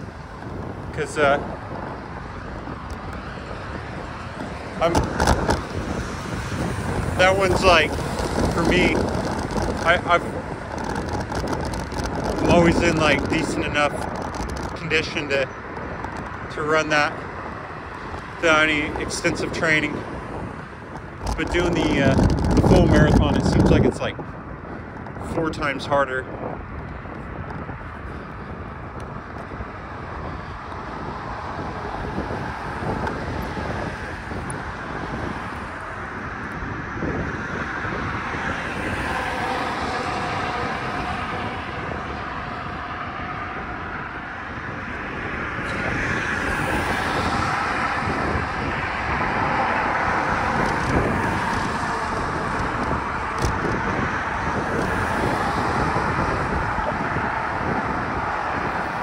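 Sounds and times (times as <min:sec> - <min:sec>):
road traffic: 0:00.0 - 0:59.0
wind on microphone: 0:00.0 - 0:59.0.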